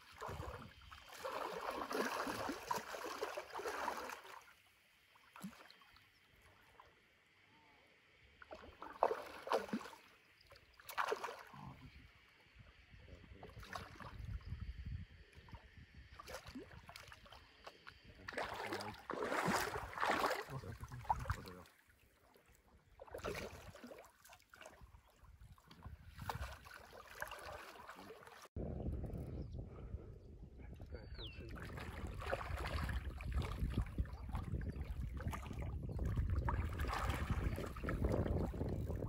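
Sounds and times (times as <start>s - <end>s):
water splashing and sloshing: 0.0s - 7.0s, 8.4s - 11.8s, 13.4s - 14.4s, 15.3s - 28.6s, 31.5s - 39.0s.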